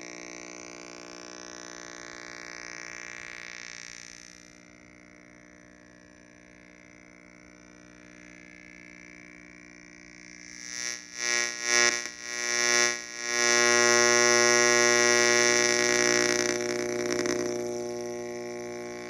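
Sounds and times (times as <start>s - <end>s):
buzzing electronic hum: 0.0s - 19.0s.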